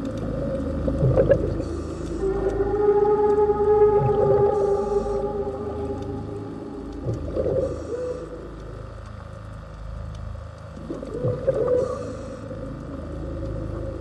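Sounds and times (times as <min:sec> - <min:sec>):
gliding whale-like tones: 0:00.0 - 0:10.1, 0:10.8 - 0:14.0
low sustained drone: 0:00.0 - 0:14.0.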